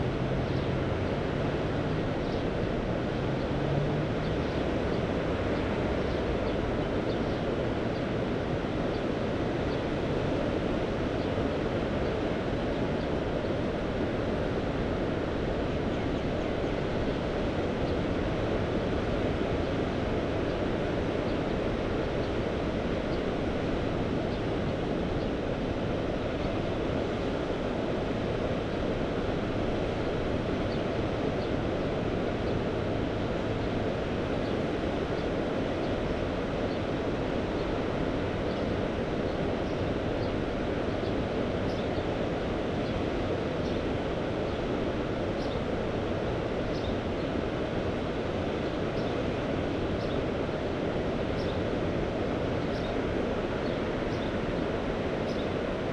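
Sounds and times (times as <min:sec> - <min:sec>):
wind: 0:00.0 - 0:55.9.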